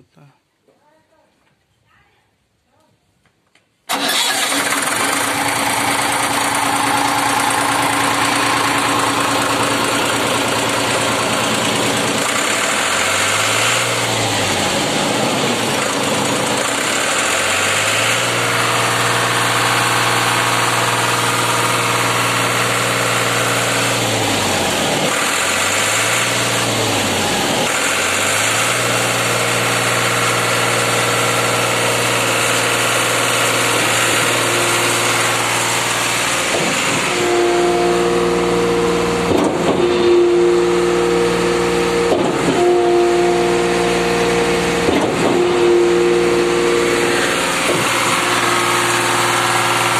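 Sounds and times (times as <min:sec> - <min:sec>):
diesel engine running: 0:03.9 - 0:49.9.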